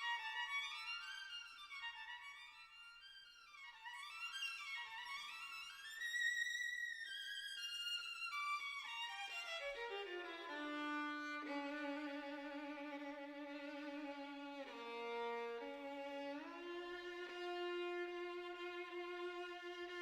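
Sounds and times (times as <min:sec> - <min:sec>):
solo violin: 0:00.0 - 0:20.0.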